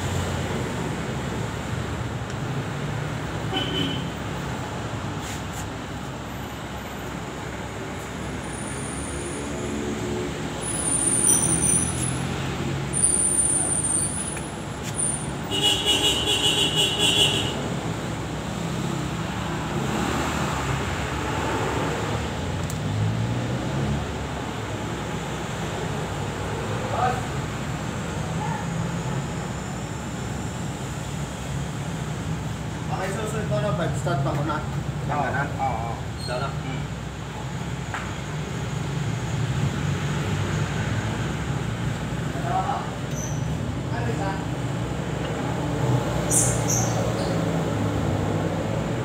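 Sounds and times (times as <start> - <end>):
traffic passing: 0.0 - 49.0.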